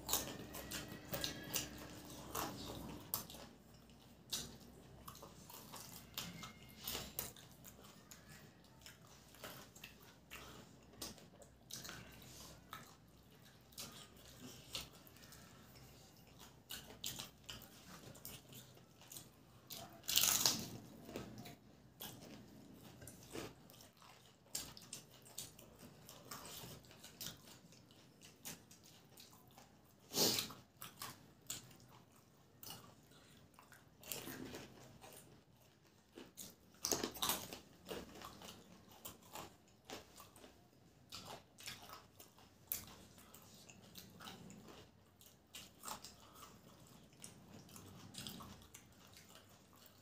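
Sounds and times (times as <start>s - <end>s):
people chewing: 0.0s - 50.0s.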